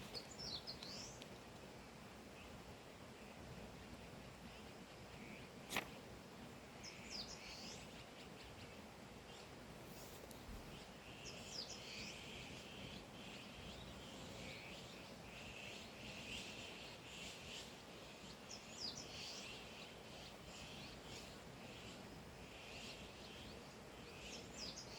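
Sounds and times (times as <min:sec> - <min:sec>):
outdoor background hiss: 0:00.0 - 0:24.9
soft bird chirping: 0:00.0 - 0:24.9.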